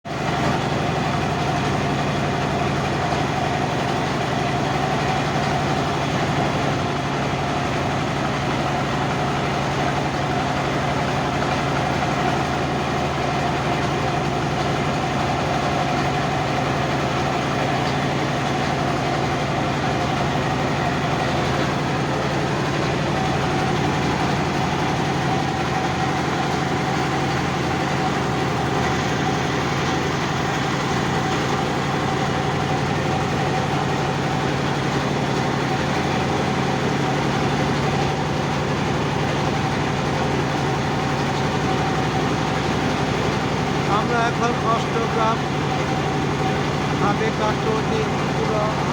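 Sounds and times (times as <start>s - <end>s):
motorboat engine humming: 0.1s - 48.9s
water wash: 0.1s - 48.9s.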